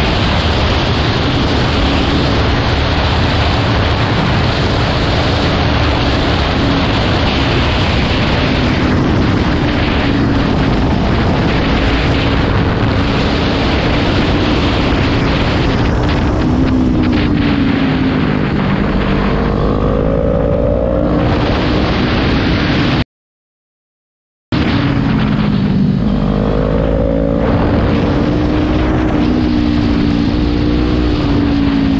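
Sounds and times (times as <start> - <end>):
motorcycle engine at speed: 0.0 - 23.0, 24.6 - 31.9
wind buffeting microphone: 0.0 - 23.0, 24.6 - 31.9.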